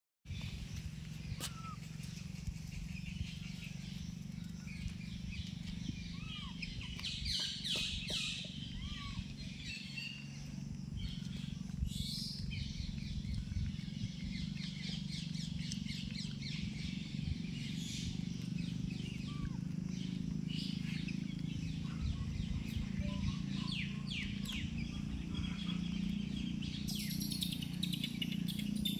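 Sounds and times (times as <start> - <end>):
steady low hum: 0.3 - 28.9
animal chirps: 1.2 - 2.4, 5.9 - 10.3, 11.0 - 28.9.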